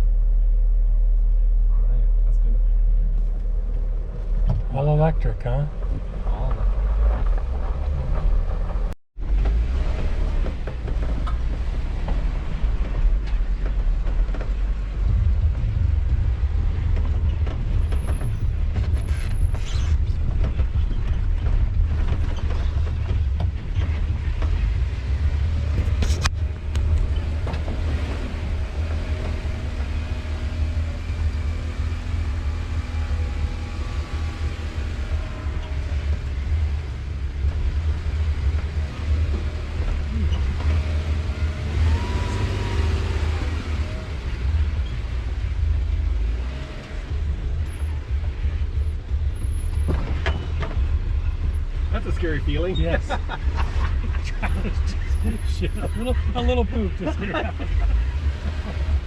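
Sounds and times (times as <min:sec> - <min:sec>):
low engine rumble: 0:00.0 - 0:59.0
suspension creaks and knocks: 0:05.7 - 0:54.3.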